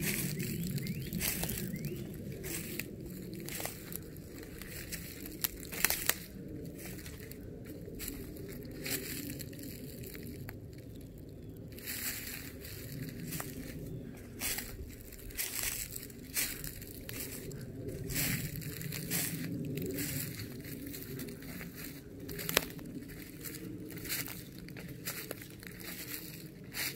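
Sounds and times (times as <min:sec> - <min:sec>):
footsteps crunching dry leaves: 0:00.0 - 0:26.9.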